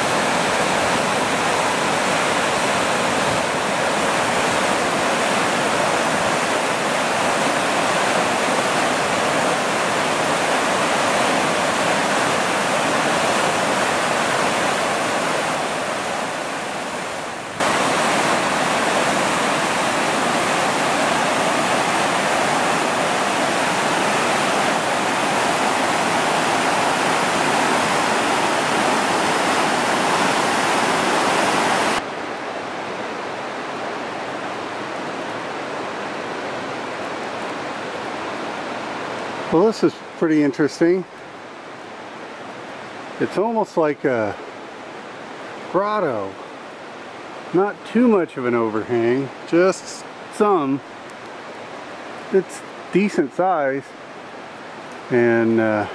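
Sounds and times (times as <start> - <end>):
river rapids rushing: 0.0 - 55.9.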